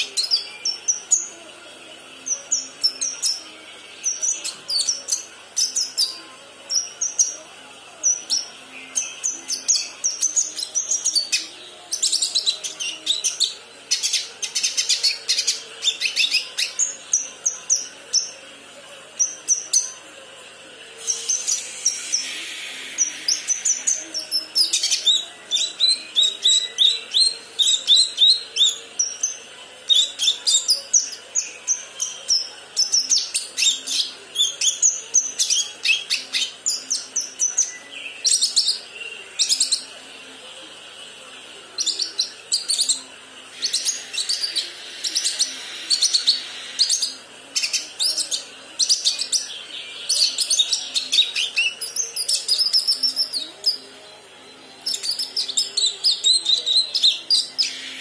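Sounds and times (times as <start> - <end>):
bird chirping and twittering: 2.1 - 7.4, 8.0 - 18.5, 21.0 - 40.0, 41.8 - 53.8, 54.8 - 58.0.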